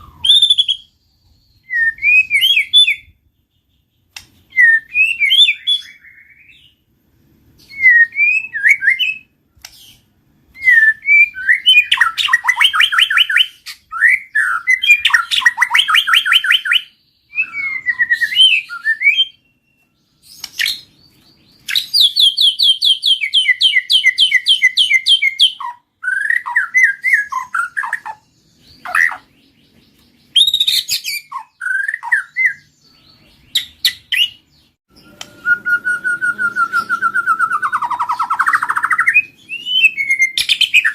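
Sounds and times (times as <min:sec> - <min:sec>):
bird singing whistles and trills: 0:00.0 - 0:06.9, 0:07.6 - 0:40.9.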